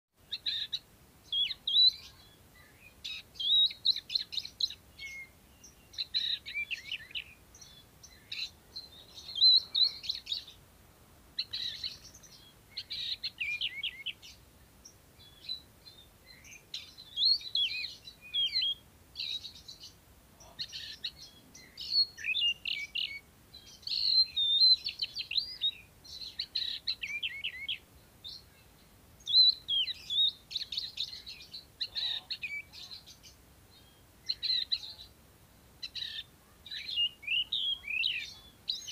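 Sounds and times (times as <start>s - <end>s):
bird singing whistles and trills: 0.3s - 10.6s, 11.4s - 14.4s, 15.2s - 35.1s, 35.8s - 38.9s.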